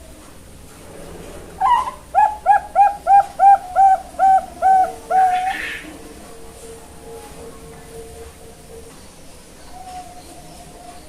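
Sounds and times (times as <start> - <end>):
dove cooing: 1.3 - 11.0.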